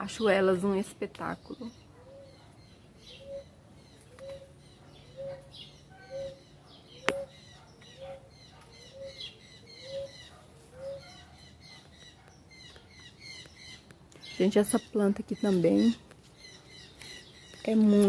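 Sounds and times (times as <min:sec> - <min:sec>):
birds chirping and twittering: 0:00.0 - 0:18.0
low repeated bird call: 0:01.6 - 0:18.0.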